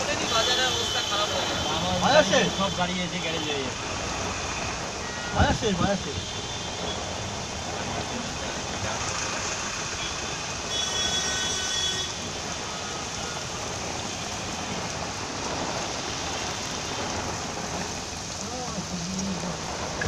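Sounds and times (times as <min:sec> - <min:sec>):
heavy rain on a street: 0:00.0 - 0:20.0
vehicles passing on wet road: 0:00.0 - 0:20.0.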